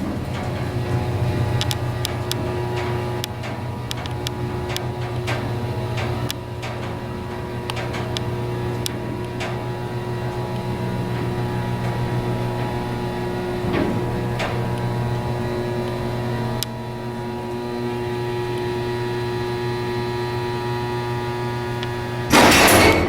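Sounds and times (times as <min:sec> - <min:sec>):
elevator door interlock clattering: 0:00.0 - 0:19.4, 0:22.2 - 0:23.0
elevator hoist motor humming: 0:00.0 - 0:23.0.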